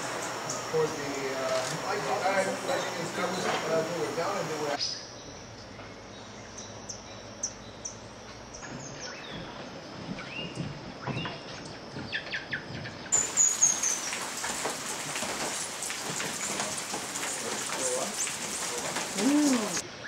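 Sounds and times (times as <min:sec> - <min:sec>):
birds calling: 0:00.0 - 0:09.6, 0:10.2 - 0:19.8.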